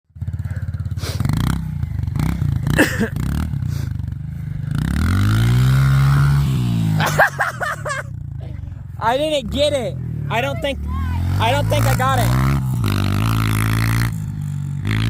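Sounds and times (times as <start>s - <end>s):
dirt bike engine revving: 0.2s - 15.0s.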